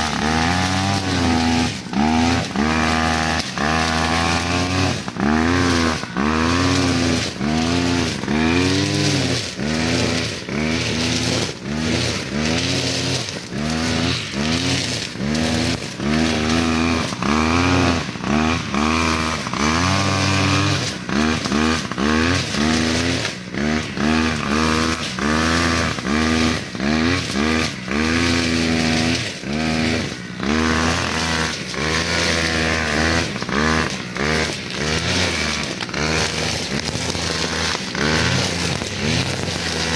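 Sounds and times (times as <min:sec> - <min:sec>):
grass cutter engine revving: 0:00.0 - 0:39.9.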